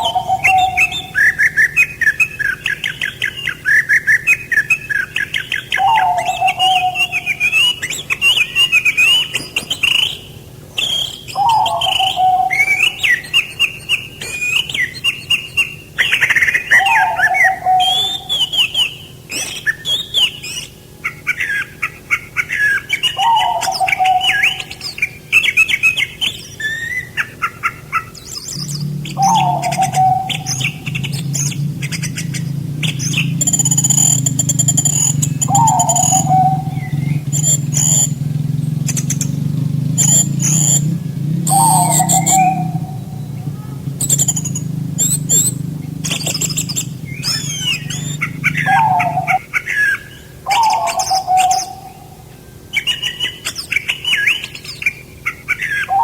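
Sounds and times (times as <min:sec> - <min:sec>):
low falling bird call: 0:00.0 - 0:56.0
low steady hum: 0:00.0 - 0:56.0
songbirds chirping and trilling: 0:00.0 - 0:56.0.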